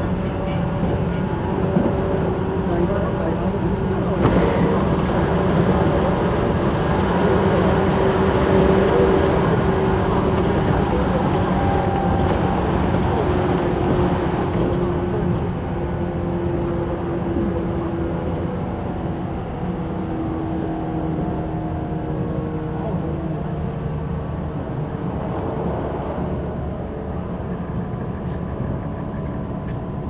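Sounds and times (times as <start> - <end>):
train motor and gear hum: 0.0 - 30.0
train wheels rumbling on rail: 0.0 - 30.0.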